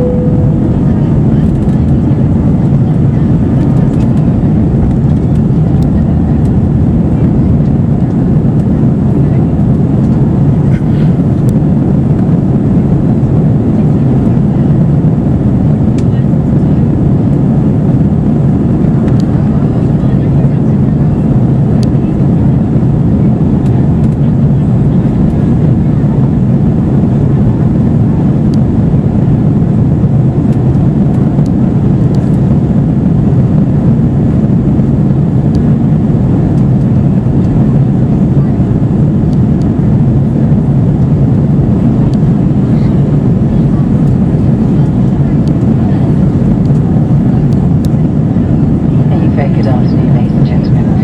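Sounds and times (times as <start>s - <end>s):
airliner cabin engine rumble: 0.0s - 51.0s.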